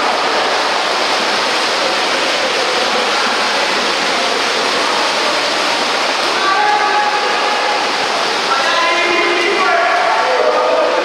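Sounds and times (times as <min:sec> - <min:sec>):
water splashing in a pool: 0:00.0 - 0:11.0.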